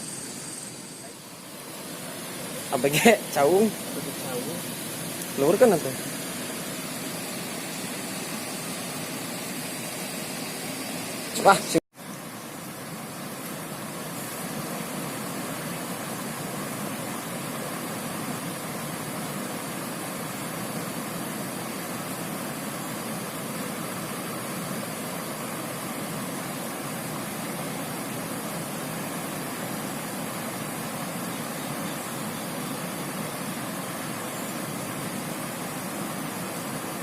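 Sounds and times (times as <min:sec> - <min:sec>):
river water rushing over rocks: 0:00.9 - 0:37.0.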